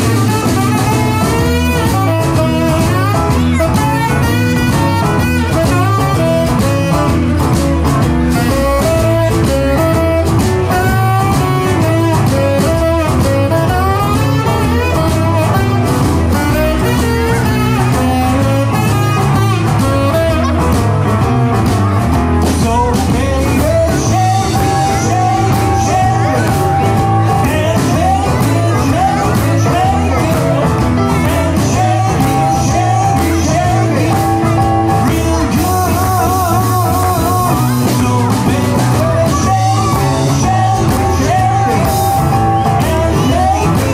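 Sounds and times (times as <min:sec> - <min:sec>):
person singing: 0:00.0 - 0:43.9
rock band playing: 0:00.0 - 0:43.9.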